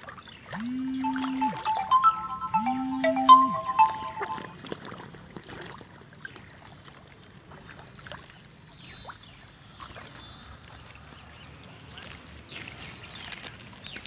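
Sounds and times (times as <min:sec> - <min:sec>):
soft water noise: 0:00.0 - 0:14.0.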